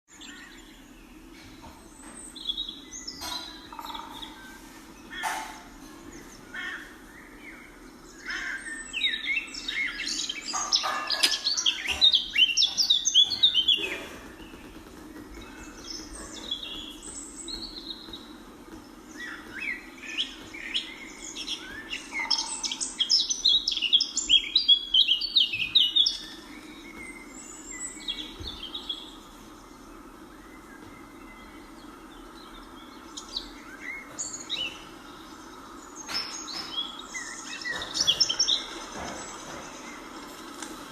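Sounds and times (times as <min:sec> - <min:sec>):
birds chirping: 0:00.1 - 0:40.9
steady low hum: 0:00.1 - 0:40.9.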